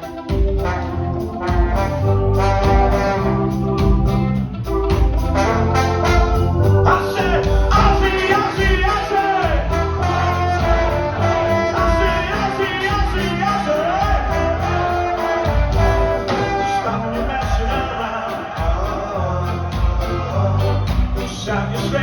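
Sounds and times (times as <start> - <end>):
guitar bass and drums: 0.0 - 22.0
ska band playing live: 0.0 - 22.0
horn or vocal melody: 0.6 - 4.0, 5.3 - 22.0.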